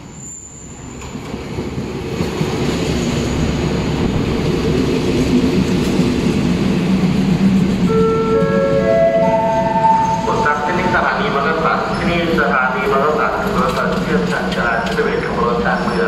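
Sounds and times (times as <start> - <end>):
train rumbling with low hum: 0.0 - 16.0.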